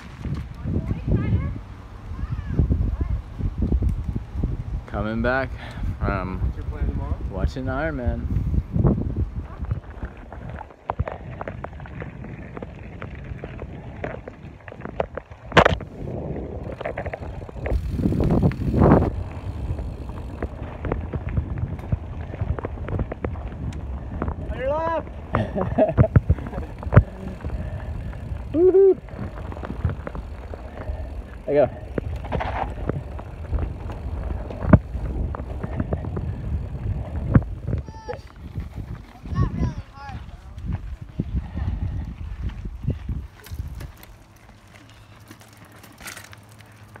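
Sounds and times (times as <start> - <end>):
bike tyres crunching on rocks: 0.0 - 1.5, 7.7 - 47.0
microphone handling rumble: 5.8 - 44.2.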